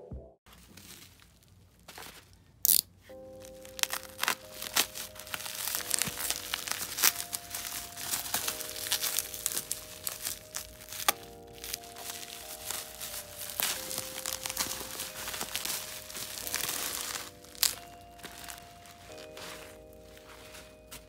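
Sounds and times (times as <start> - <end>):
blade slitting bubble wrap: 0.5 - 21.0
bubble wrap crinkling: 0.5 - 21.0
soft background music: 2.6 - 21.0.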